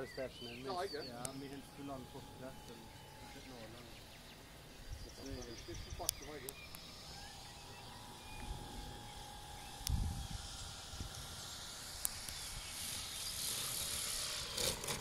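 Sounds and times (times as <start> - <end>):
electric model plane motor whine: 0.0 - 15.0
soft rushing hiss: 0.0 - 15.0.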